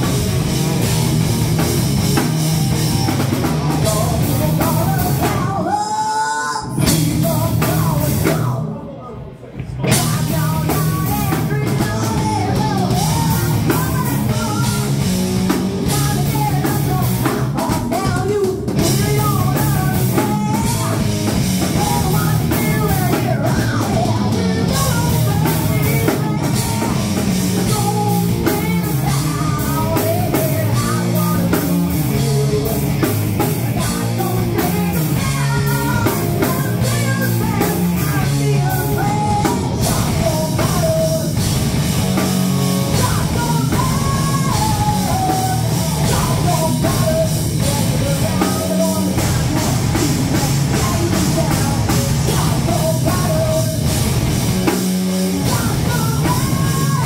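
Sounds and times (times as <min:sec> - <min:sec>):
live rock band playing: 0:00.0 - 0:08.8, 0:09.7 - 0:57.0
woman singing: 0:03.5 - 0:08.7, 0:09.8 - 0:41.6, 0:42.2 - 0:54.0, 0:55.4 - 0:57.0.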